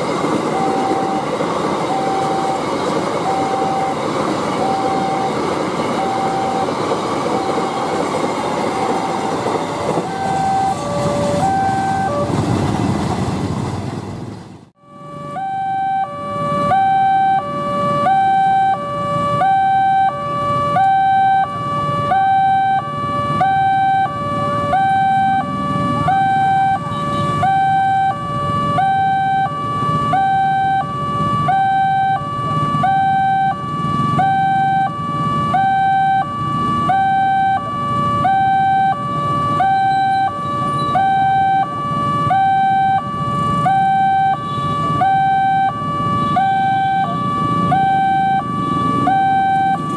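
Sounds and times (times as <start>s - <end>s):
level crossing two-tone alarm: 0.0s - 12.3s, 14.8s - 49.9s
low traffic rumble: 0.0s - 49.9s.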